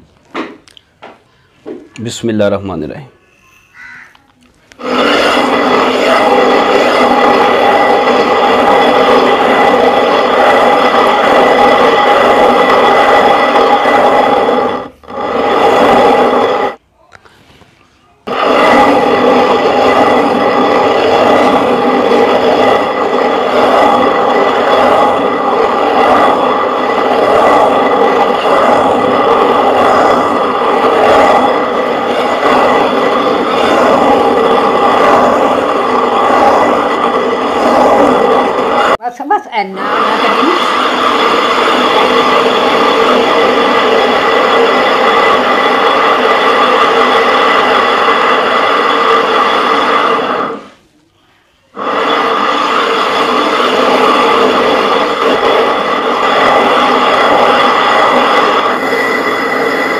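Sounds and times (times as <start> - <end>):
stone hand mill grinding: 4.8 - 16.8, 18.3 - 39.0, 39.8 - 50.7, 51.8 - 59.9.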